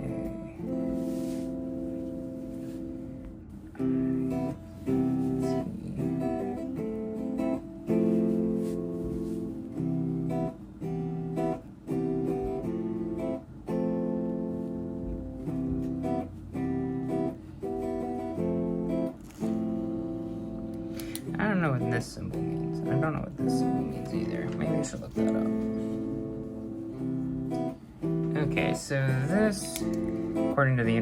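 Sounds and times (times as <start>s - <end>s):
acoustic guitar playing chords: 0.0s - 31.0s.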